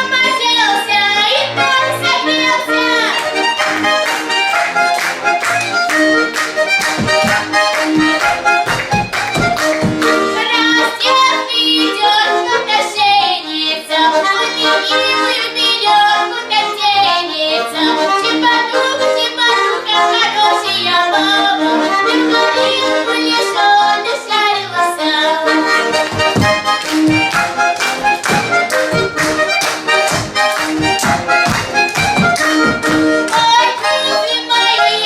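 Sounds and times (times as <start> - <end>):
accordion playing a tune: 0.0 - 35.0.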